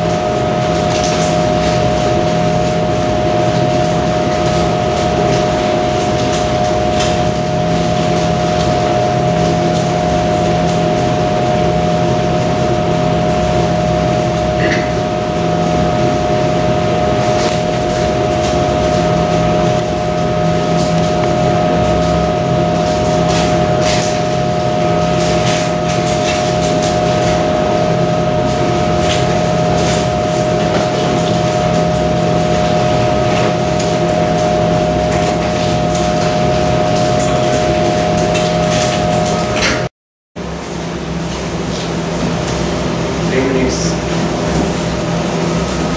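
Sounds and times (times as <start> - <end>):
mechanical hum with whine: 0.0 - 45.9.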